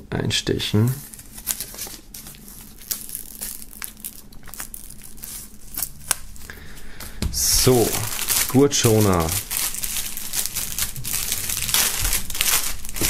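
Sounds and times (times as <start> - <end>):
plastic film crinkling and tearing: 0.8 - 6.6, 7.4 - 13.0.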